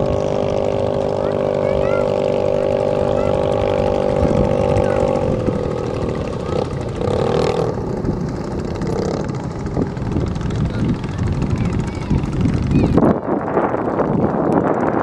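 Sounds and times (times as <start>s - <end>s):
boat engines at high revs: 0.0s - 15.0s
wind noise rumble: 0.0s - 15.0s.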